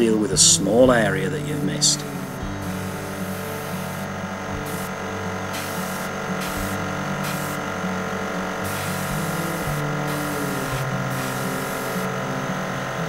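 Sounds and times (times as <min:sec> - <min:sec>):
steady hum: 0:00.0 - 0:13.0
airbrush hissing in bursts: 0:01.8 - 0:12.8.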